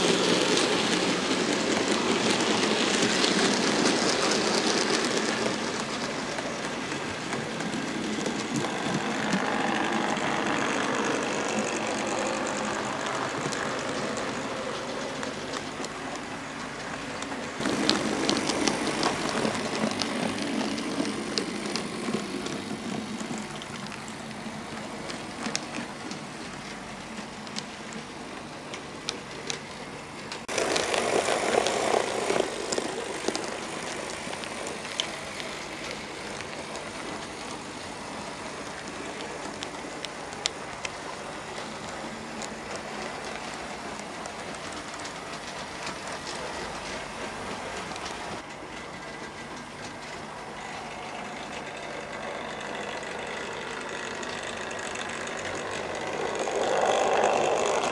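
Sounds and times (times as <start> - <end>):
model train wheels rattling: 0.0 - 57.9.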